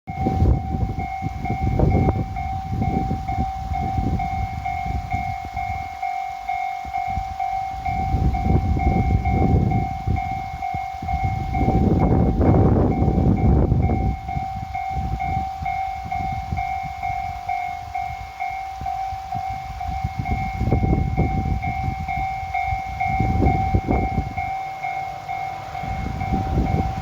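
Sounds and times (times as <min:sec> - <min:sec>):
high-pitched whine: 0:00.1 - 0:27.0
locomotive engine rumble: 0:00.1 - 0:27.0.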